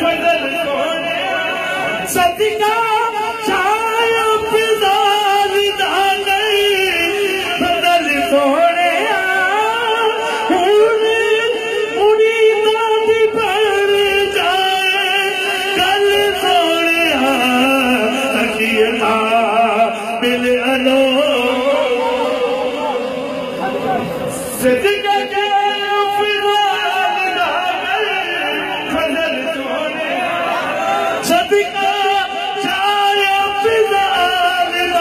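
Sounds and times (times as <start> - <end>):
person singing devotional chant: 0.0 - 30.2.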